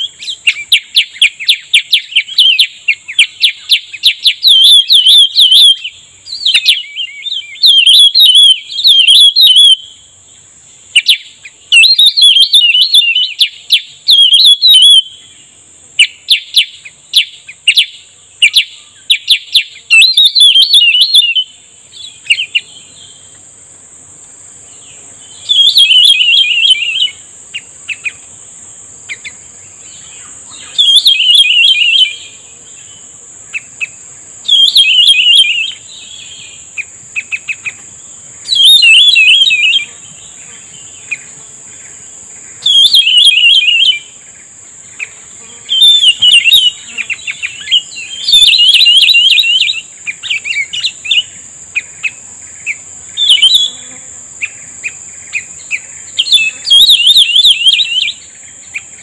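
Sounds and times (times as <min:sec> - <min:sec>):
bird warbling call: 0:00.0 - 0:09.9, 0:11.0 - 0:15.4, 0:16.0 - 0:23.4, 0:25.4 - 0:28.2, 0:29.1 - 0:32.4, 0:33.5 - 0:37.8, 0:38.4 - 0:40.0, 0:42.6 - 0:44.1, 0:44.9 - 0:53.8, 0:54.4 - 0:59.0
high insect drone: 0:00.0 - 0:59.0.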